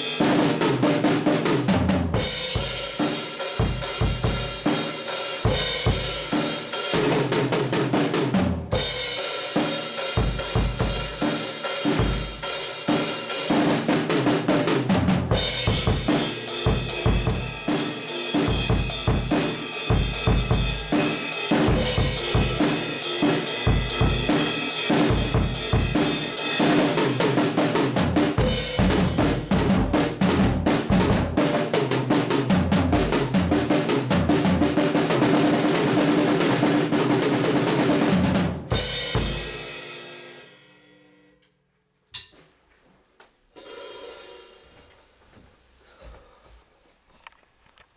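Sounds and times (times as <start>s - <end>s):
drum kit beat: 0.0s - 40.3s, 43.5s - 44.9s.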